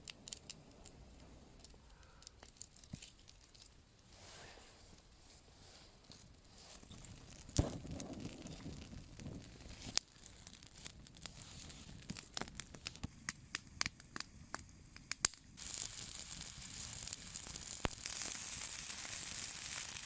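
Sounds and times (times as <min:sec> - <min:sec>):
campfire crackling and popping: 0:00.0 - 0:20.0
fire hissing: 0:00.0 - 0:20.0.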